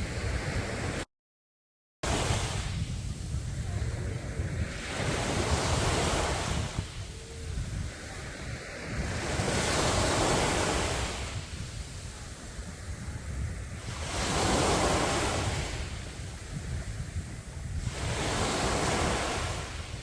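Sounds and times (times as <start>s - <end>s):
sea waves breaking on a beach: 0.0s - 1.1s, 2.0s - 20.0s
wind rumble on microphone: 0.0s - 1.1s, 2.0s - 20.0s.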